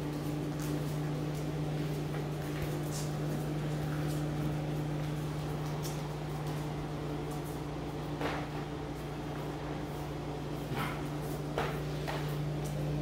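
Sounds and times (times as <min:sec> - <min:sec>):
low background hum: 0:00.0 - 0:13.0
puppies clicking on tile floor: 0:00.0 - 0:13.0.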